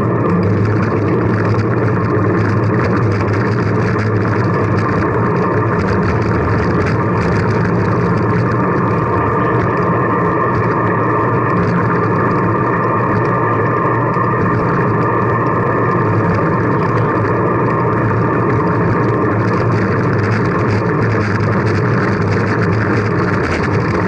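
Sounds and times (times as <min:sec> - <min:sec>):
bicycle road noise: 0:00.0 - 0:24.0
rushing wind: 0:00.0 - 0:24.0.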